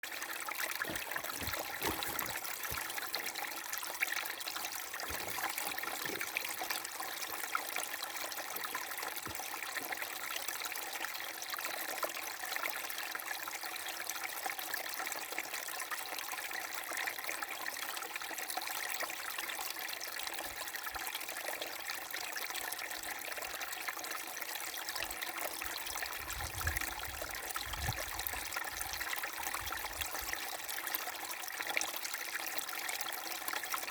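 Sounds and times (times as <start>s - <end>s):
brook babbling over stones: 0.0s - 33.9s.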